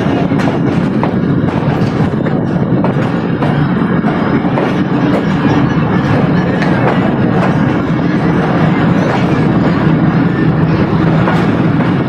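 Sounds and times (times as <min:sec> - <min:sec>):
train rumbling on rails: 0:00.0 - 0:12.0
wheels clicking over track: 0:00.0 - 0:12.0.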